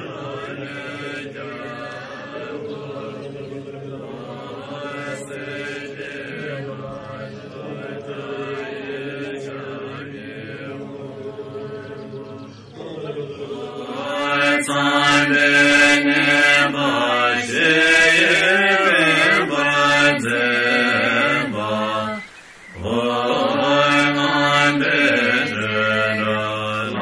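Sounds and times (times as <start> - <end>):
voices chanting a prayer: 0.0 - 27.0.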